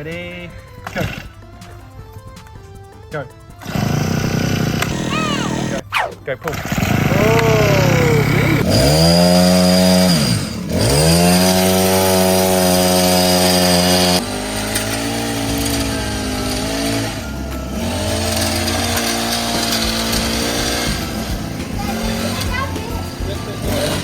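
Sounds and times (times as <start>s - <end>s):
toy chainsaw electronic engine: 3.6s - 5.8s, 6.4s - 24.0s.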